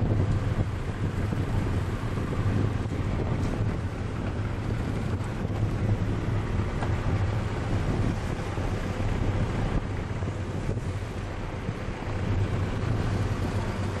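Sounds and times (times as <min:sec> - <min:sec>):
boat engine humming: 0:00.0 - 0:14.0
wind noise on microphone: 0:00.0 - 0:14.0.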